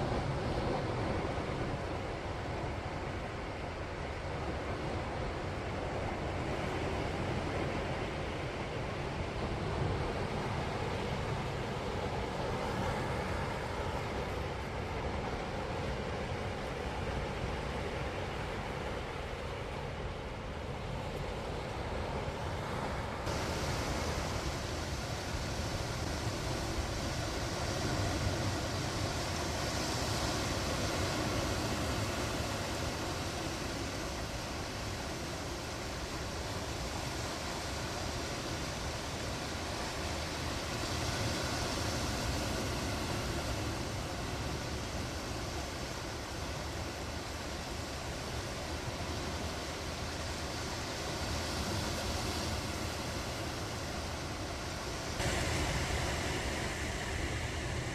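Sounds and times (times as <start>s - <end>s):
sea surf: 0.0s - 57.9s
wind: 0.0s - 57.9s.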